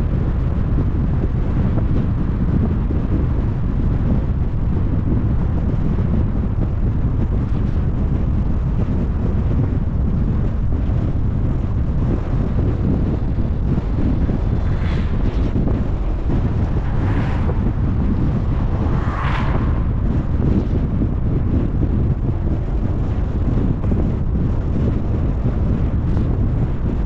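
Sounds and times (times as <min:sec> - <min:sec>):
car road noise rumble: 0:00.0 - 0:27.0
wind buffeting microphone: 0:00.0 - 0:27.0.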